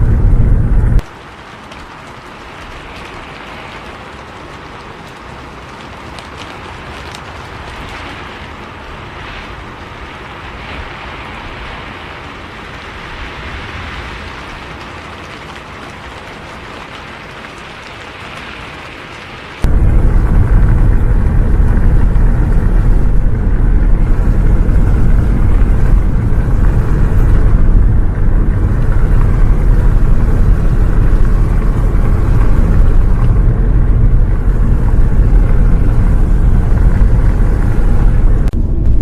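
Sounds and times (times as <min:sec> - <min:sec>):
bus engine and road noise: 0:00.0 - 0:01.1, 0:02.9 - 0:39.0.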